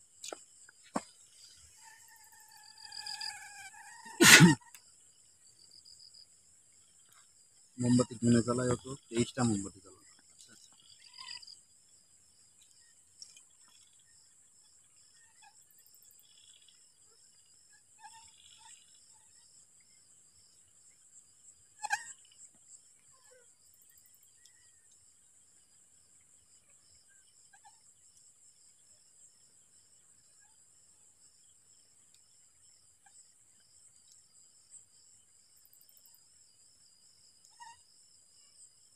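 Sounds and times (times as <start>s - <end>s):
cricket chirps: 0.0s - 38.9s
insects trilling: 0.0s - 38.9s.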